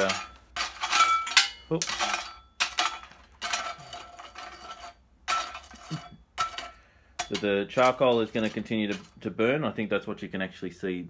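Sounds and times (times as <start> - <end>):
coke scraping in metal forge: 0.0 - 9.4.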